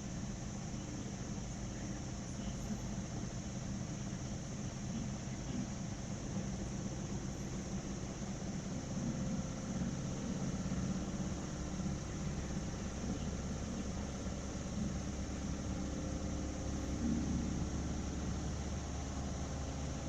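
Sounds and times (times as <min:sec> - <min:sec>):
constant hiss: 0:00.0 - 0:20.0
low hum: 0:00.0 - 0:20.0.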